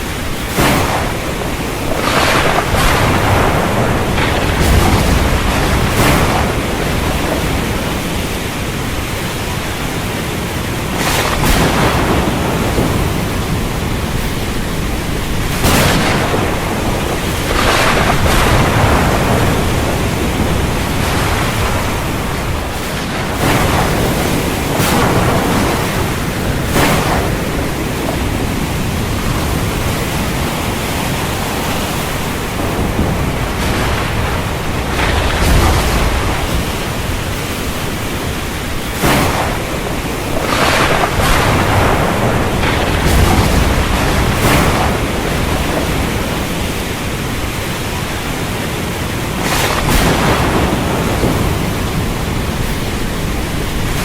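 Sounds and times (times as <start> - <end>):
heavy surf: 0.0 - 54.0
wind roaring: 0.0 - 54.0.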